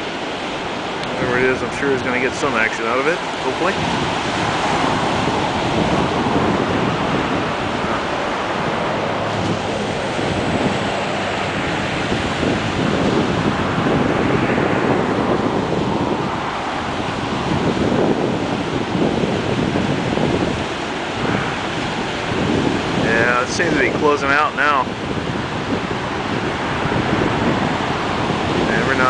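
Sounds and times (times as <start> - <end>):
small waves breaking: 0.0 - 29.0.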